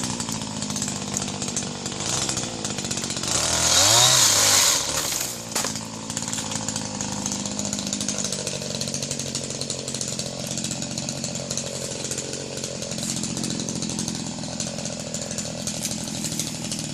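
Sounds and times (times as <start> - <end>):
chainsaw engine idling: 0.0 - 16.9.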